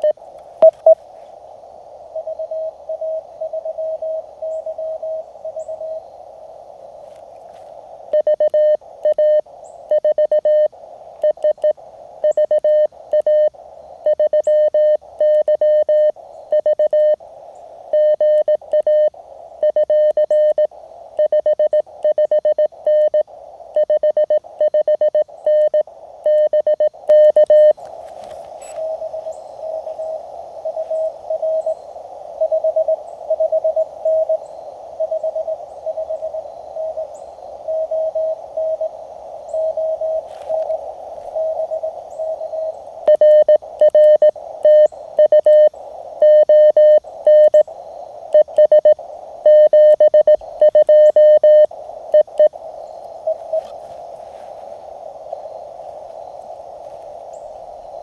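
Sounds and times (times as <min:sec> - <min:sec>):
morse code sidetone: 0:00.0 - 0:01.0, 0:02.2 - 0:06.0, 0:07.5 - 0:17.2, 0:17.9 - 0:58.0
faint morse signal: 0:00.0 - 0:58.0
radio band noise hiss: 0:00.0 - 0:58.0.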